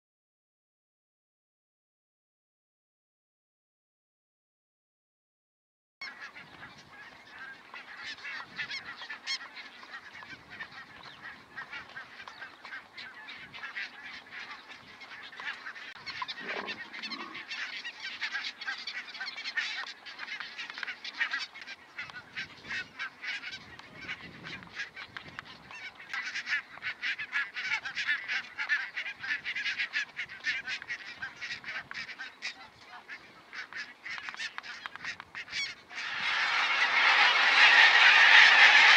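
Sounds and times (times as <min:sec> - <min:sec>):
geese honking: 0:06.0 - 0:38.9.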